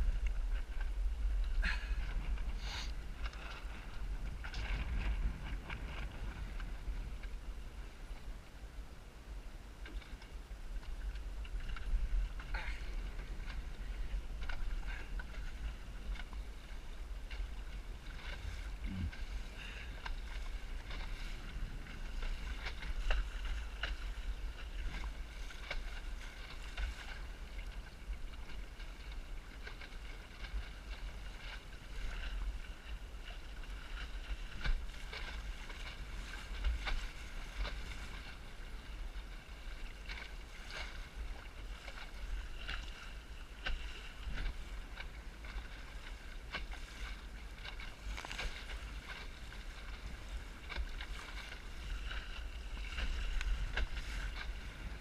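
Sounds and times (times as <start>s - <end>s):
water slapping against hull: 0.0s - 8.3s, 9.8s - 55.0s
wind rumble on microphone: 0.0s - 55.0s.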